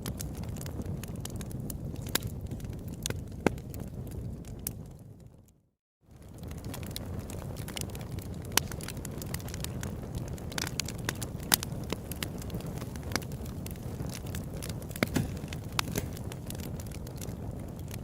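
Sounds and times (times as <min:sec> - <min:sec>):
low rush of burning: 0:00.0 - 0:05.2, 0:06.1 - 0:18.0
campfire crackling and popping: 0:00.0 - 0:18.0.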